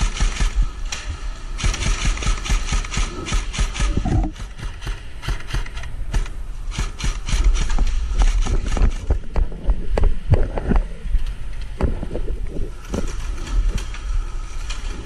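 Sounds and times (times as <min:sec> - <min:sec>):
sharp clicks and knocks: 0:00.0 - 0:12.2
low rumble of handling and wind: 0:00.0 - 0:15.0.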